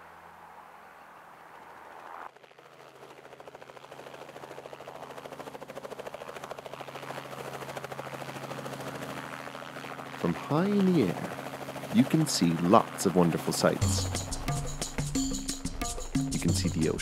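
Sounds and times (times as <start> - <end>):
helicopter engine hum: 1.7 - 17.0
helicopter rotor beating: 2.3 - 17.0.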